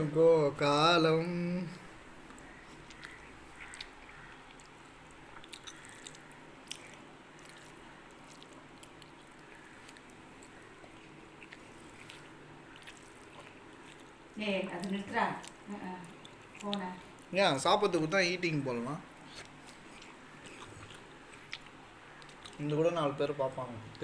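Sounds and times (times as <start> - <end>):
low steady hum: 0.0 - 24.0
soft chewing and small clicks: 2.2 - 17.4, 19.2 - 24.0.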